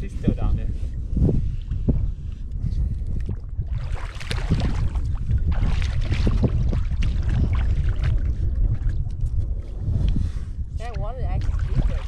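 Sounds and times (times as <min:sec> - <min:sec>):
steady low rumble: 0:00.0 - 0:12.0
water splashing and sloshing: 0:01.4 - 0:12.0.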